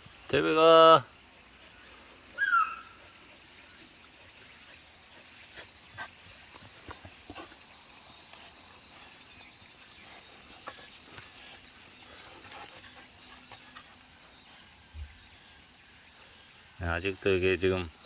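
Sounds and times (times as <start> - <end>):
low steady hiss: 0.0 - 18.0.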